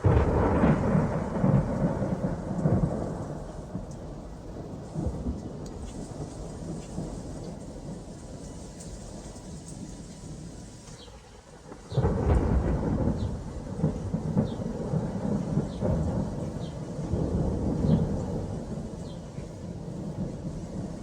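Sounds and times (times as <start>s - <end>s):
rain-like hiss: 0.0s - 21.0s
thunder clap and rumble: 0.0s - 21.0s.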